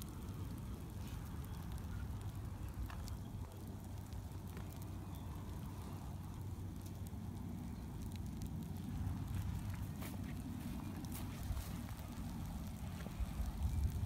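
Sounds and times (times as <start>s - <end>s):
bonfire flames rumbling: 0.0s - 14.0s
fire crackling and popping: 0.0s - 14.0s.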